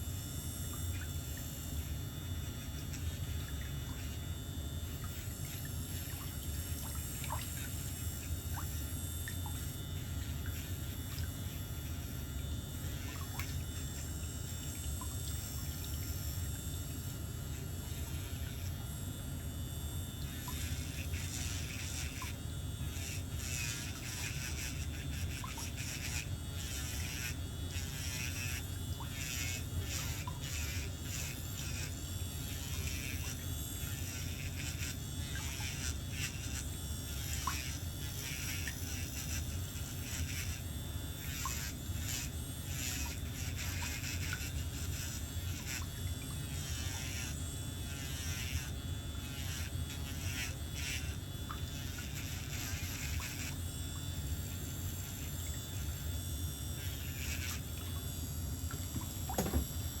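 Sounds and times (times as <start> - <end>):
electric nail drill buzzing: 0.0 - 60.0.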